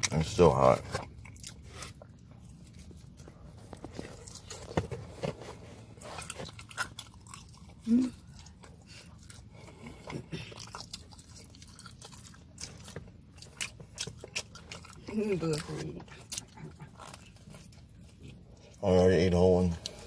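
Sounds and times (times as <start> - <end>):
person chewing: 0.0 - 19.0, 19.7 - 20.0.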